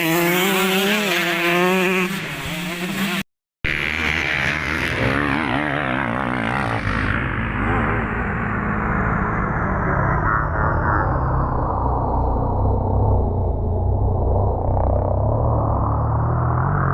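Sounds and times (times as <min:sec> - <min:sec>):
motocross bike engines revving: 0:00.0 - 0:13.4, 0:14.4 - 0:16.9.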